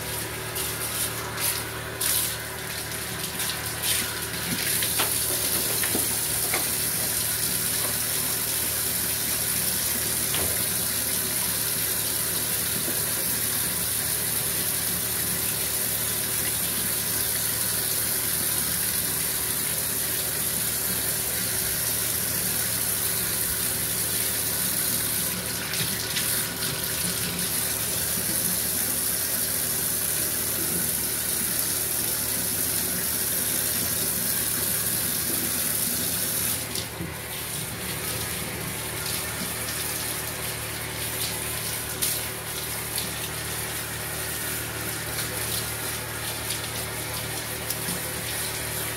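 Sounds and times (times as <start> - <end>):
shower spraying water into bathtub: 0.0 - 48.9.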